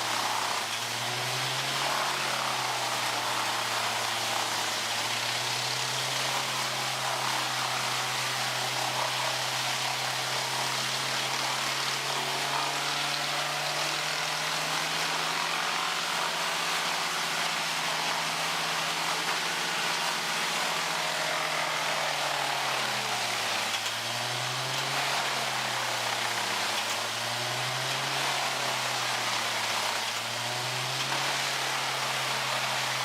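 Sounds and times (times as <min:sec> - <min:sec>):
wood chipper grinding: 0:00.0 - 0:33.0.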